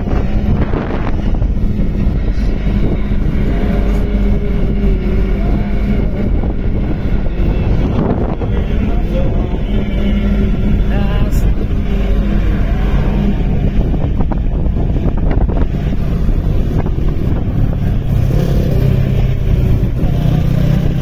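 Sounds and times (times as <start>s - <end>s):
vehicle engine and road noise: 0.0s - 21.0s
wind rumbling on microphone: 0.0s - 21.0s.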